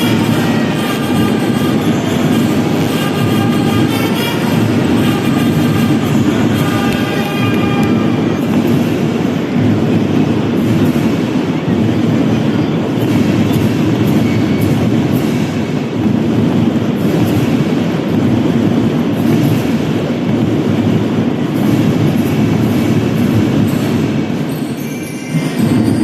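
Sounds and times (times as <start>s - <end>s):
marching drum band playing: 0.0s - 24.8s.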